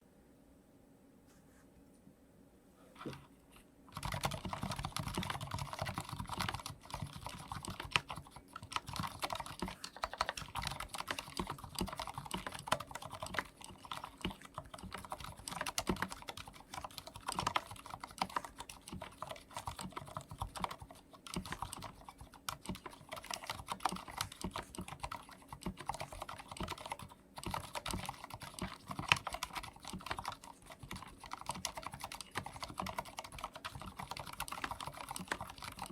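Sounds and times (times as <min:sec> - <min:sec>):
fast typing on mechanical keyboard: 0:03.9 - 0:35.9.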